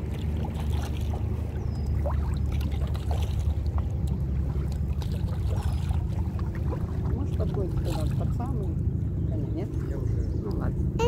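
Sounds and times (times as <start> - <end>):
steady low rumble: 0.0 - 11.0
water splashing around kayak: 0.0 - 11.0.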